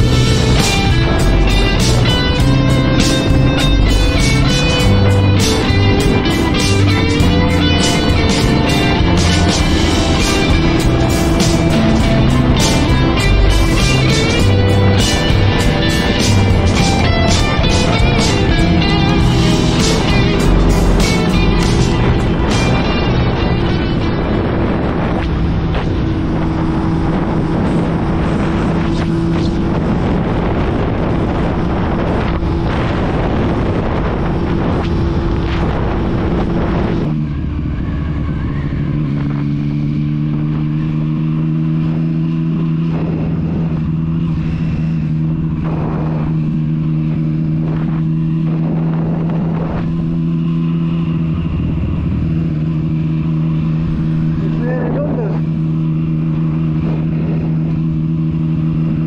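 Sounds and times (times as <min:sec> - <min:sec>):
motorcycle engine drone: 0:00.0 - 0:59.0
wind and road noise rushing: 0:00.0 - 0:59.0.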